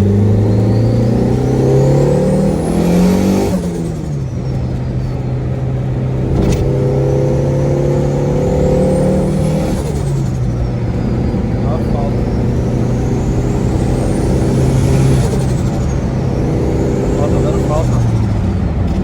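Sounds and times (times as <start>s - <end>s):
car engine pulling hard: 0.0s - 19.0s.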